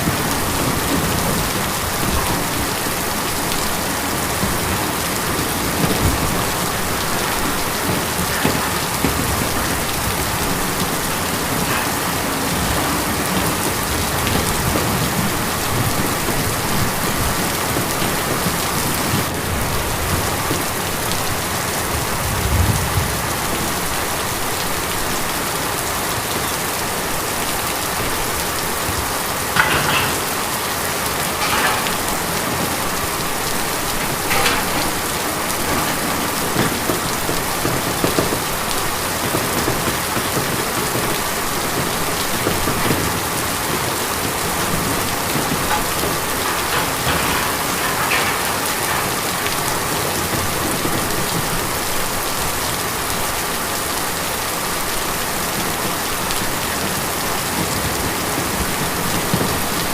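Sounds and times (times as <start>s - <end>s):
rain on a tin roof: 0.0s - 59.9s.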